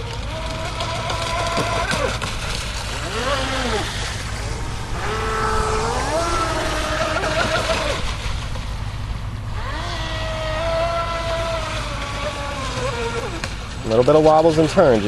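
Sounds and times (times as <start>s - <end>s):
electric motor whining: 0.0s - 8.4s, 9.2s - 14.6s.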